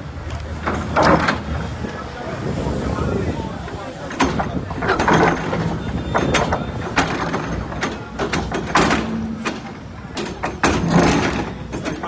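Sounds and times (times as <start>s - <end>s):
excavator engine hum: 0.0s - 12.0s
excavator bucket clanking: 0.2s - 2.0s, 3.6s - 12.0s.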